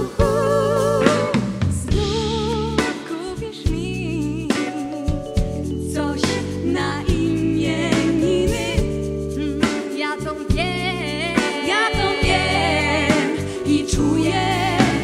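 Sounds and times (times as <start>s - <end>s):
band with piano bass and drums: 0.0s - 15.0s
woman singing pop song: 0.0s - 15.0s.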